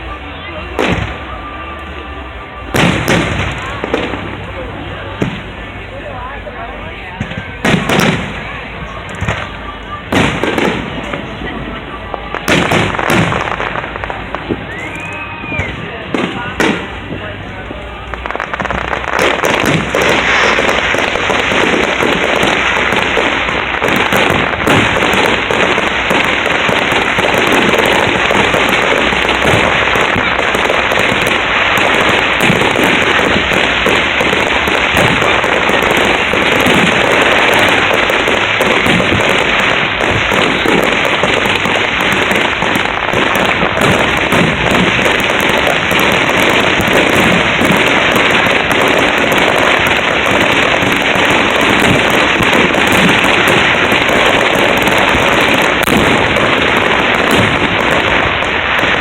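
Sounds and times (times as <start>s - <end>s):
fireworks bangs and crackle: 0.0s - 59.0s.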